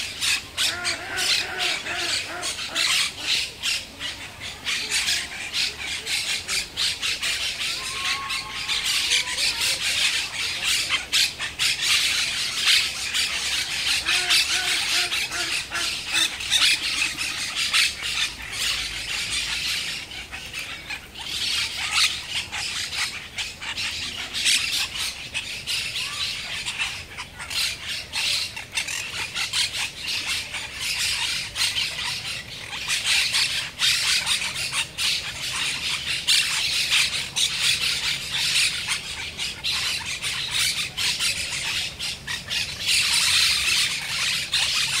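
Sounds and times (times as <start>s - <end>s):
parakeets squawking: 0.0s - 45.0s.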